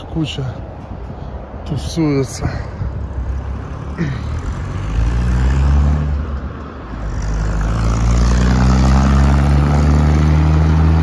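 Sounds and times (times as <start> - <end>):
vehicle engine drone: 0.4 - 11.0.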